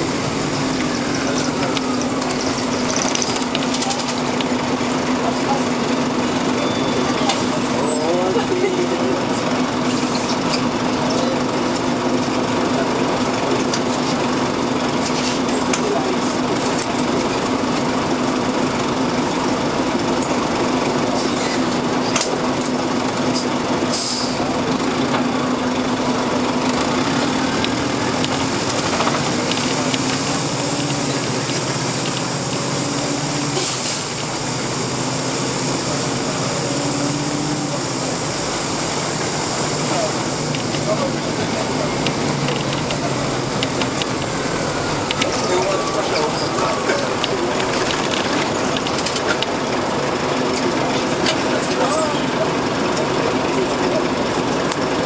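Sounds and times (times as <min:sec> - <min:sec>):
bus engine running with whine: 0:00.0 - 0:55.0.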